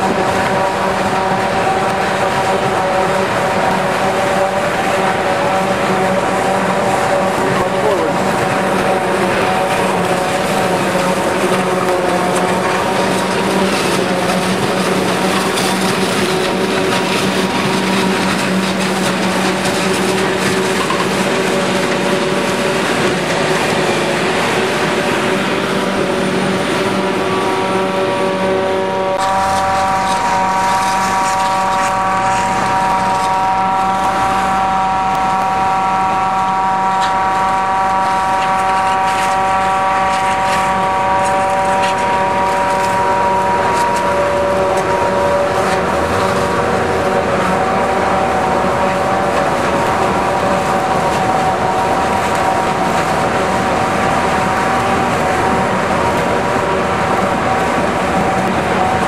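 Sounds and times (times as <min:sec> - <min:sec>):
forage harvester droning: 0:00.0 - 0:59.0
high-pitched machine whine: 0:00.0 - 0:59.0.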